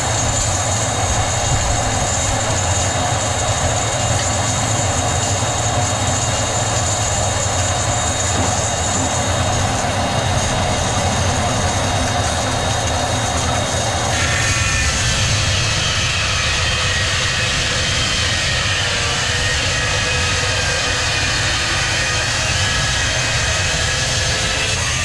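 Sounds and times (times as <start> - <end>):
sawmill machinery droning: 0.0 - 25.0.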